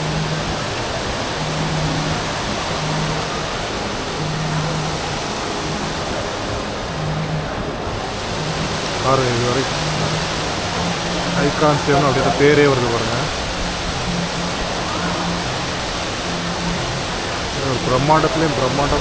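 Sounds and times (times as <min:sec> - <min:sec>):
water pouring in fountain: 0:00.0 - 0:19.0.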